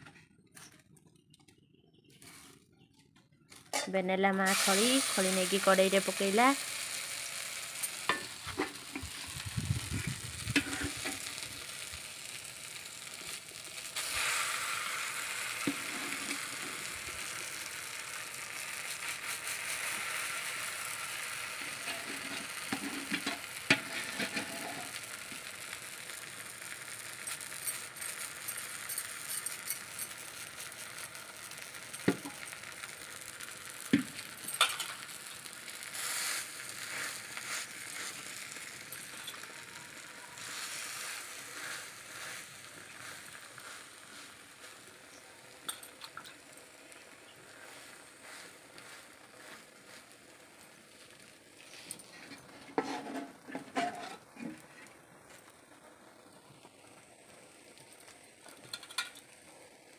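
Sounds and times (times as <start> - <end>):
batter sizzling in hot oil: 3.7 - 59.9.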